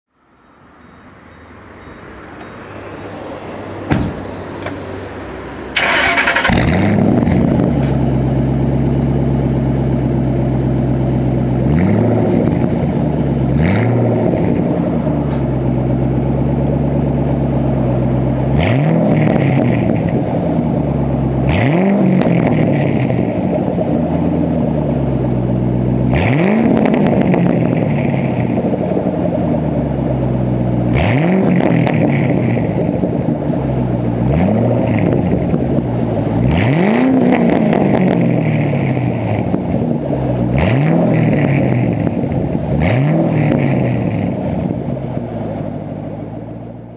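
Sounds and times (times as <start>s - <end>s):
car engine starting and idling: 0.8s - 46.9s
engine revving: 2.7s - 45.8s.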